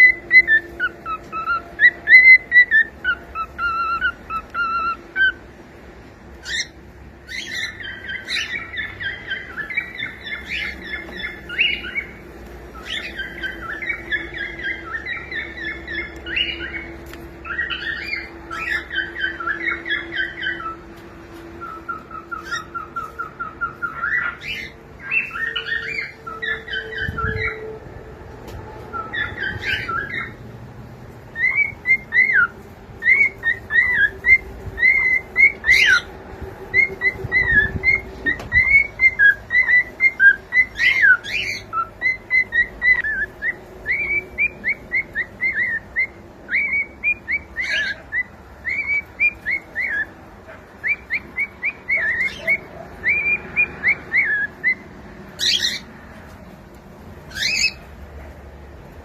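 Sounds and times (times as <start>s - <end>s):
cockatiel whistling and chirping: 0.0s - 5.5s, 6.4s - 12.2s, 12.8s - 27.8s, 28.9s - 30.4s, 31.3s - 36.1s, 36.7s - 55.9s, 57.3s - 57.8s.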